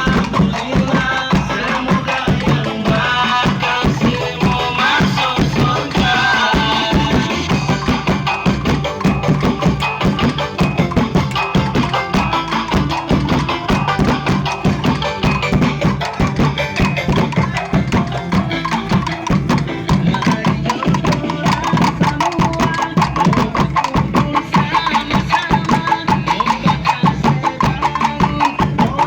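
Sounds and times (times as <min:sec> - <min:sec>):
music with fast percussion beat: 0:00.0 - 0:29.0.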